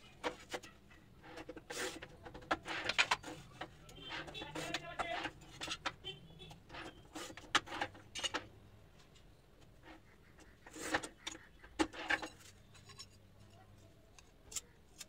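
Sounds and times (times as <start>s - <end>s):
scoring wheel scratching tile: 0.2s - 8.5s, 9.7s - 15.0s.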